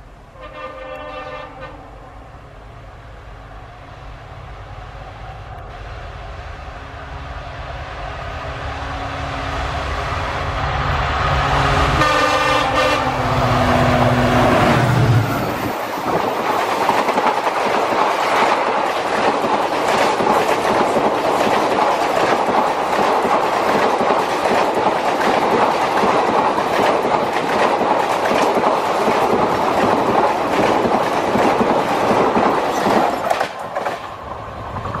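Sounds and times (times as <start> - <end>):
train coaches rushing past: 0.4 - 35.0.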